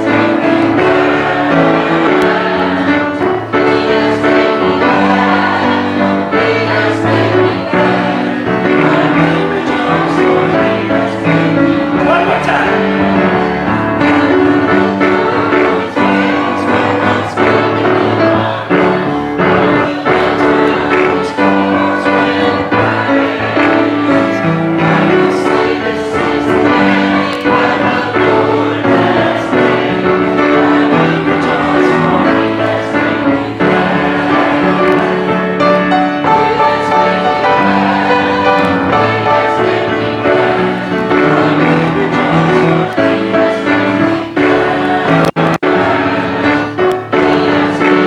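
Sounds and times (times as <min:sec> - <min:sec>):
group singing gospel song: 0:00.0 - 0:48.0
piano accompaniment: 0:00.0 - 0:48.0.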